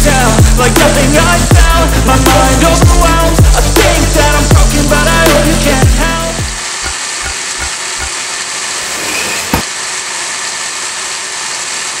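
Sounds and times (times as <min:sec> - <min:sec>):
belt sander running with hiss: 0:00.0 - 0:12.0.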